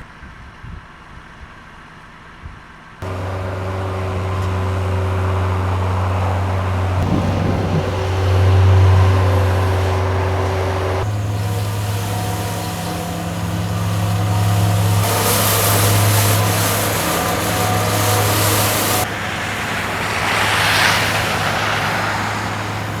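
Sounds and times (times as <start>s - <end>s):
loud rushing hiss: 3.0s - 23.0s
vehicle engine humming: 3.0s - 23.0s.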